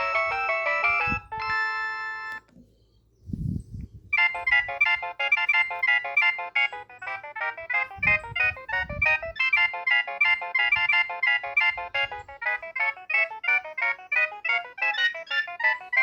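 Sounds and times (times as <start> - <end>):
phone ringtone tunes: 0.0 - 2.5, 4.2 - 16.0.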